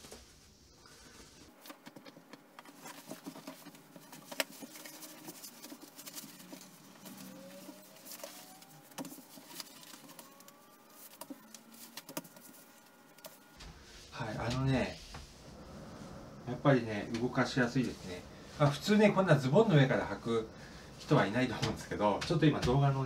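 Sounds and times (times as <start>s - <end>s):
stretchy fabric rustling: 0.0s - 22.2s.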